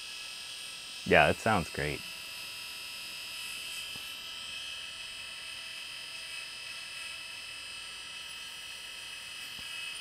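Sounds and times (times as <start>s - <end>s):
hard drive high-pitched whir: 0.0s - 10.0s.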